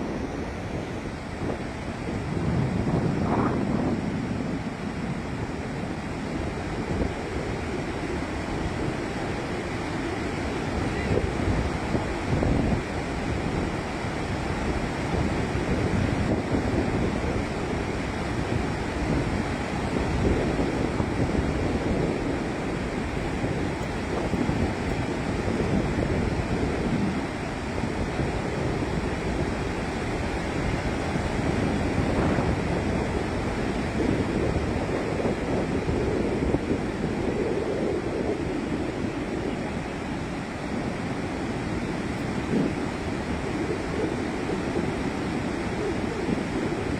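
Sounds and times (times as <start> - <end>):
water rushing from dam: 0.0 - 46.9
wind on microphone: 0.0 - 46.9.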